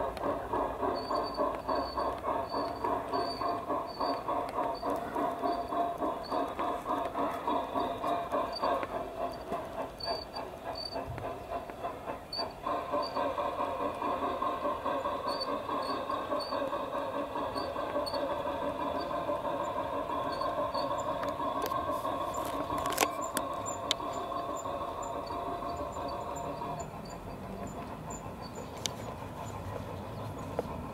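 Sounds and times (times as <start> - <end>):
model train wheels rattling on track: 0.0 - 30.9
sharp clicks: 0.1 - 29.6
steady squeal: 0.8 - 11.1, 12.3 - 30.6.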